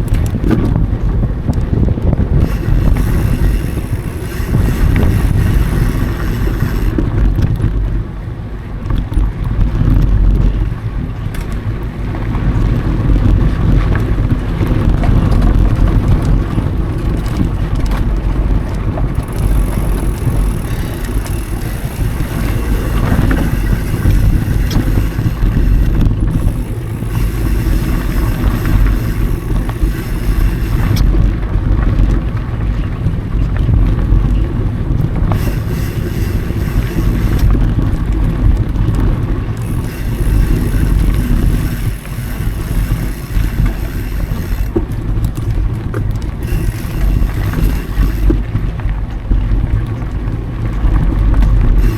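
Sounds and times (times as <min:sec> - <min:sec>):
bike clicks and rattles: 0:00.0 - 0:51.9
low tyre rumble: 0:00.0 - 0:51.9
wind on camera microphone: 0:00.0 - 0:51.9.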